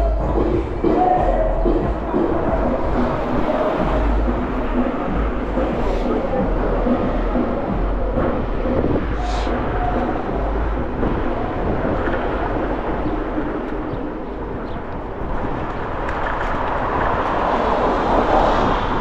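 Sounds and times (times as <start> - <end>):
scooter rolling rumble: 0.0 - 19.0
wind rush: 0.0 - 19.0.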